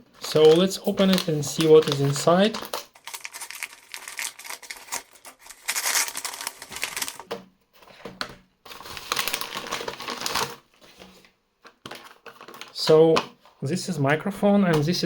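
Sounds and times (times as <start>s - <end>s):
cardboard and plastic rustling: 0.1s - 13.6s.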